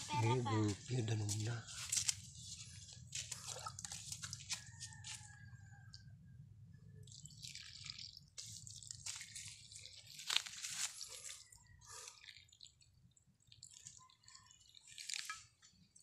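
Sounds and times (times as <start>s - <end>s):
coconut milk trickling and dripping: 0.5s - 16.0s.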